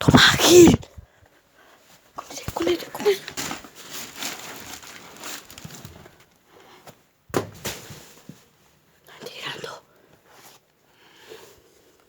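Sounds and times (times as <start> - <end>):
rustling and shuffling: 0.0 - 9.0, 10.0 - 12.0.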